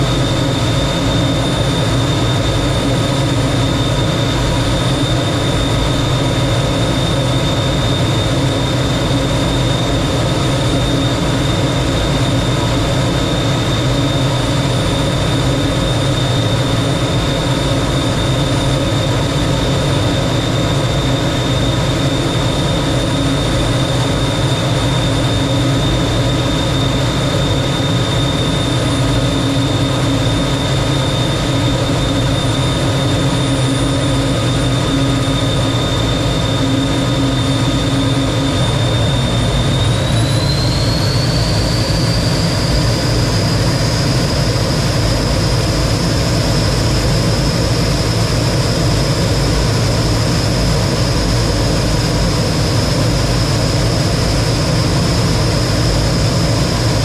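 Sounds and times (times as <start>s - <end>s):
jet engine running with high whine: 0.0s - 57.0s.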